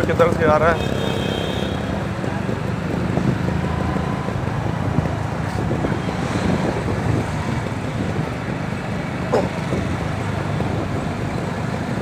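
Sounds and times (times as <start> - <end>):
motorcycle engine running: 0.0 - 12.0
road traffic noise: 0.0 - 12.0.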